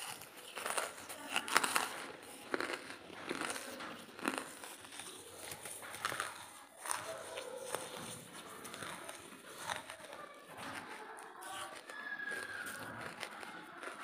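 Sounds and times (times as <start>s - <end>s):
chewing gritty charcoal crunches: 0.0s - 14.0s.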